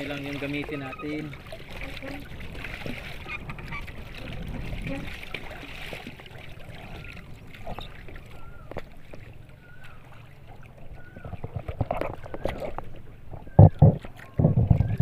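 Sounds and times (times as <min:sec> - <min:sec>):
water lapping against pontoons: 0:00.0 - 0:15.0.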